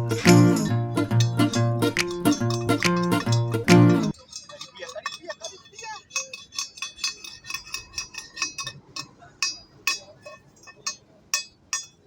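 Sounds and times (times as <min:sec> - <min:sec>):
hammer striking steel: 0:00.0 - 0:12.0.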